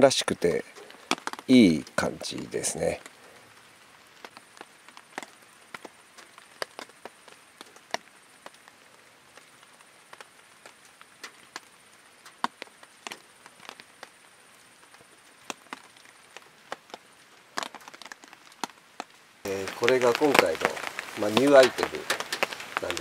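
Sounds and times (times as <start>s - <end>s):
water drops tapping on tarp: 0.7s - 2.0s, 4.2s - 8.7s, 9.4s - 14.2s, 14.8s - 23.0s.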